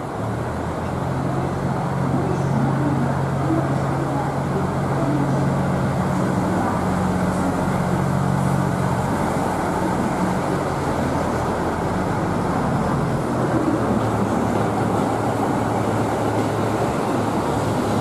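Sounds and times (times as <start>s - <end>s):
diesel train engine droning: 0.0s - 18.0s.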